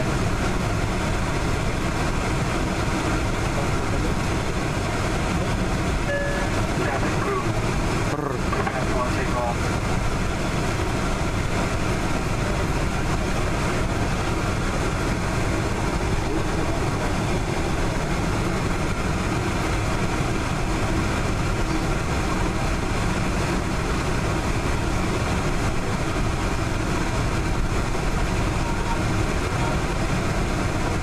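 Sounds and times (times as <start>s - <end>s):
jet engines rumbling in cabin: 0.0s - 31.0s.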